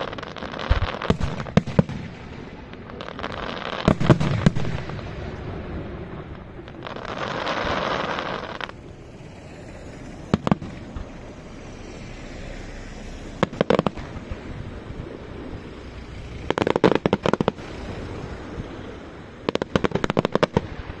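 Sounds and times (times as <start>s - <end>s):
firework bangs: 0.0s - 21.0s
firework hiss: 0.0s - 21.0s.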